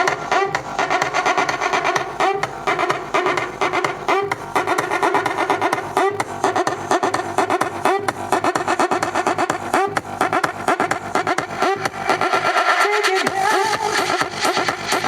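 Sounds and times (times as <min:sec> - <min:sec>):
loud fast-beat music from car speakers: 0:00.0 - 0:15.0.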